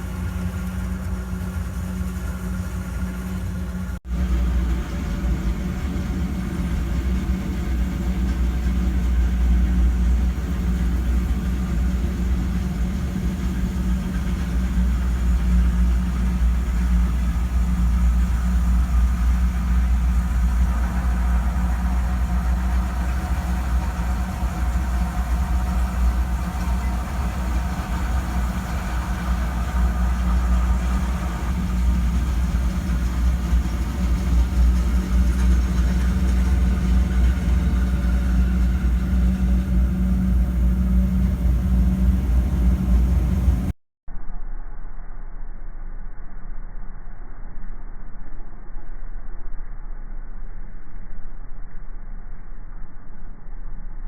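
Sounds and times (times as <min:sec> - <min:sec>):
farm machine engine drone: 0:00.0 - 0:43.8.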